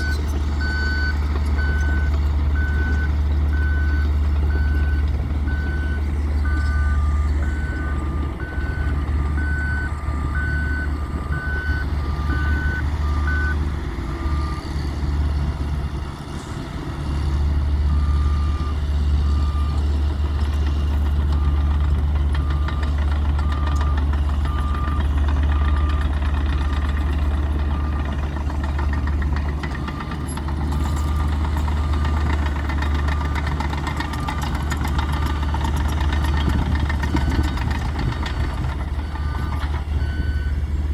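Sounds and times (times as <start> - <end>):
reversing alarms beeping: 0.0 - 15.5, 17.7 - 40.8
heavy vehicle engines running: 0.0 - 40.9.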